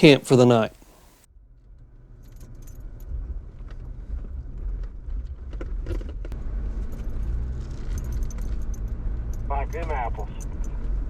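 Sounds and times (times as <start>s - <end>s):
vehicle engine and road noise: 1.3s - 11.0s.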